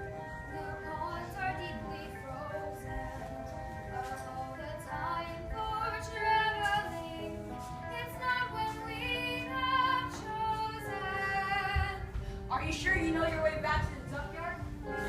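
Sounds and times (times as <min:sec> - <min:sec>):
girl singing: 0:00.4 - 0:15.0.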